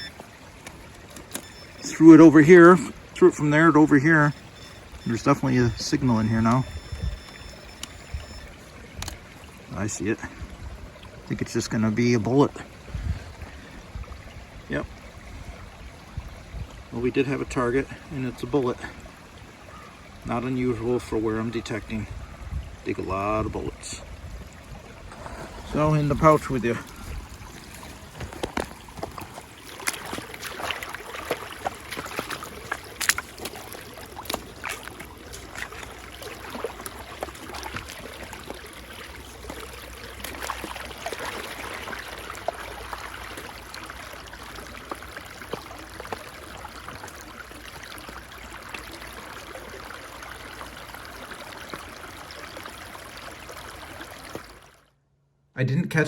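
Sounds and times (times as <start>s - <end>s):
stream water over rocks: 0.0s - 54.9s.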